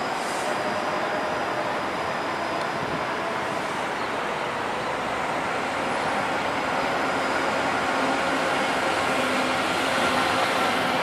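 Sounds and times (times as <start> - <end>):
city traffic noise: 0.0 - 11.0
streetcar running on rails: 0.0 - 11.0.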